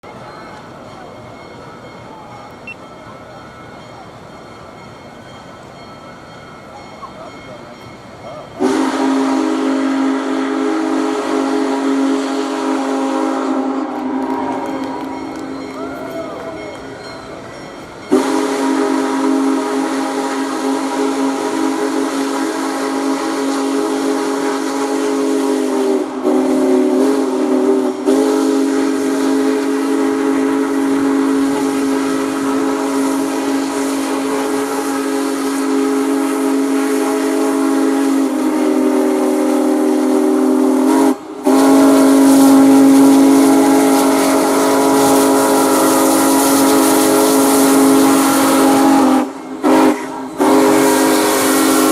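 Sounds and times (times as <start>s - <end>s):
steam locomotive chime whistle: 0.0s - 51.9s.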